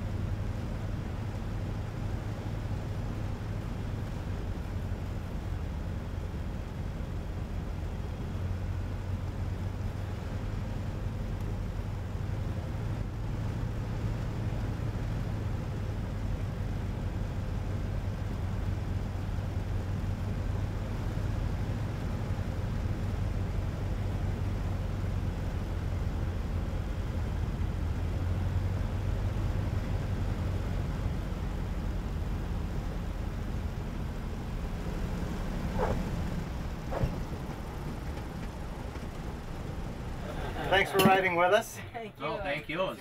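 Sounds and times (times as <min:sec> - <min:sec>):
aircraft engines droning: 0:00.0 - 0:43.0.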